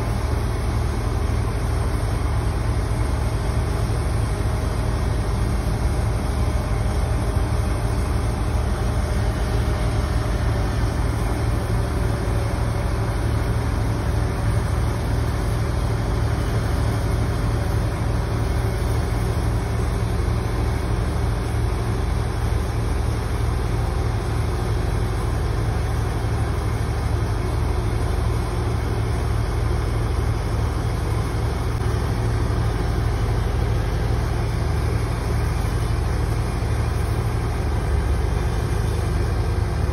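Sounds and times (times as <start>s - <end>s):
diesel engine droning: 0.0s - 23.4s, 24.8s - 39.9s.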